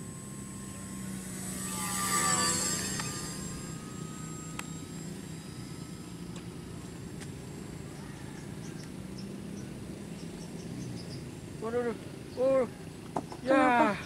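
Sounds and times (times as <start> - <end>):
model plane motor droning: 0.0 - 14.0.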